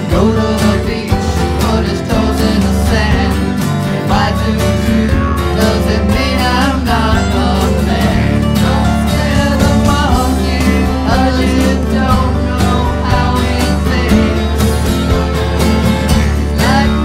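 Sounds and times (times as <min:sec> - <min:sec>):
country band music with guitar: 0:00.0 - 0:17.0.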